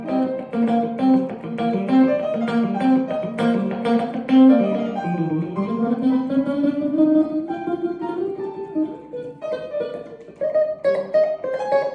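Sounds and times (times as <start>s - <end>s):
guitar picked melody: 0.0s - 11.9s.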